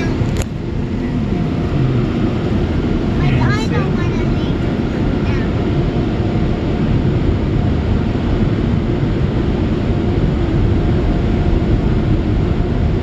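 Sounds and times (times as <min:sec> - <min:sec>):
car wash air dryers roaring: 0:00.0 - 0:13.0.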